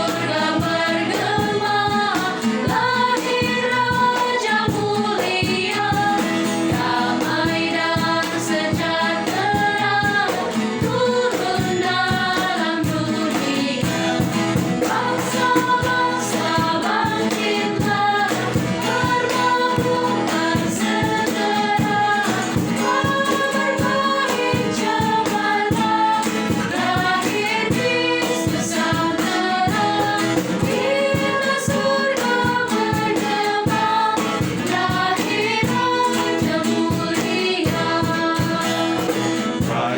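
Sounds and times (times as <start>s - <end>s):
choir singing a religious song: 0.0s - 39.9s
instrumental accompaniment: 0.0s - 39.9s.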